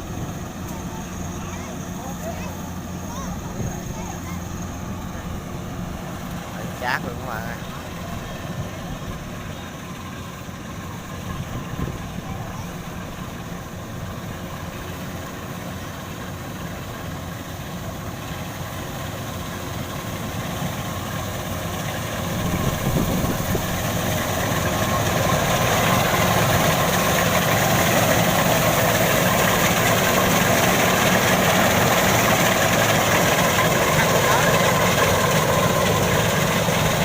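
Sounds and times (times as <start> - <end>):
combine harvester engine running: 0.0 - 37.0.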